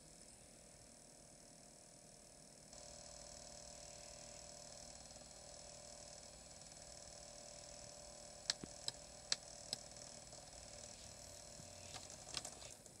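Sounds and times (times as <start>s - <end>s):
faint electronic whine: 2.5s - 13.0s.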